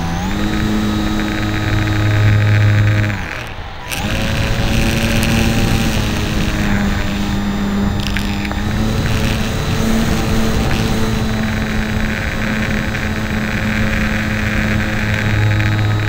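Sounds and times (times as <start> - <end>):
model plane motor and propeller: 0.0 - 16.0.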